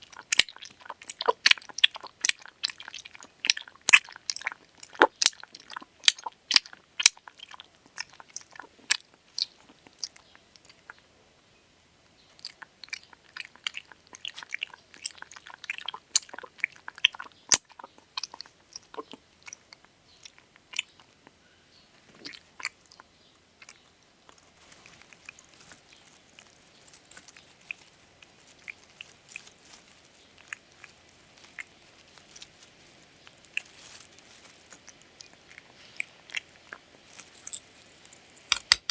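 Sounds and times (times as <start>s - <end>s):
dog chewing and crunching food: 0.0s - 11.0s, 12.4s - 21.4s, 22.0s - 38.9s.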